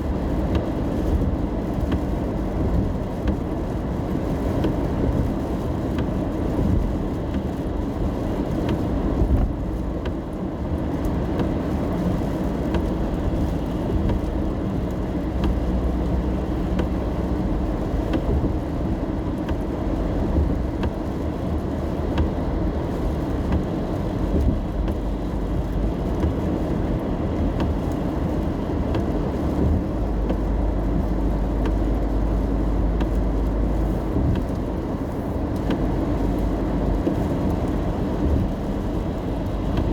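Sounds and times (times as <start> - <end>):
rain ticking on car: 0.0 - 39.9
road and tyre noise: 0.0 - 39.9.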